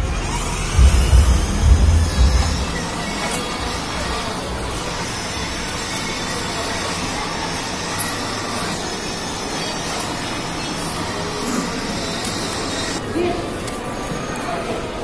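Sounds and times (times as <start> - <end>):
toy car electric motor rumble: 0.0 - 13.0.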